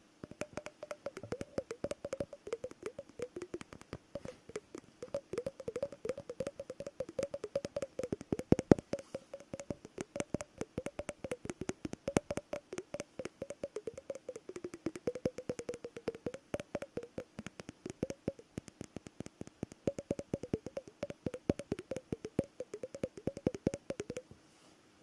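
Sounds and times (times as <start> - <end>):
fast tapping on glass and plastic: 0.0 - 24.3.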